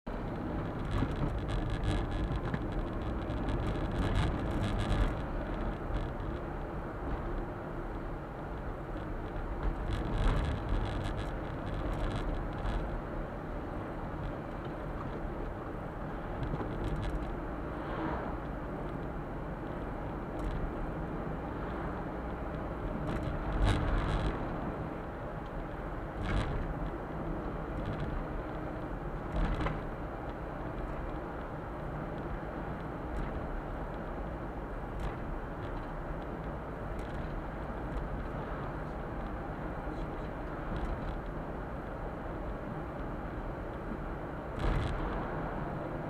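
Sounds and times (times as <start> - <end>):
truck engine and road noise: 0.0 - 46.0.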